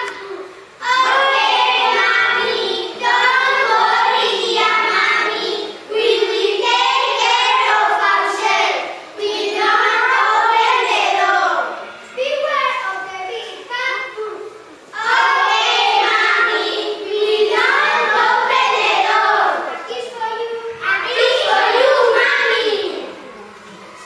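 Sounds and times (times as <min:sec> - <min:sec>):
children singing: 0:00.0 - 0:12.1, 0:14.8 - 0:19.8, 0:20.8 - 0:24.0.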